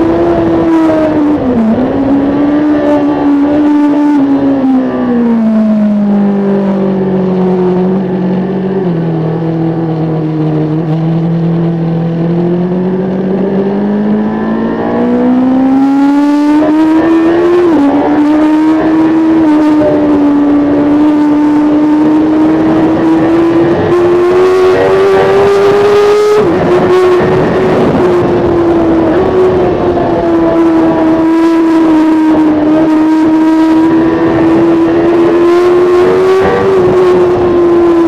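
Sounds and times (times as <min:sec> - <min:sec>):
motorcycle engine revving: 0:00.0 - 0:38.0
wind rush: 0:00.0 - 0:38.0.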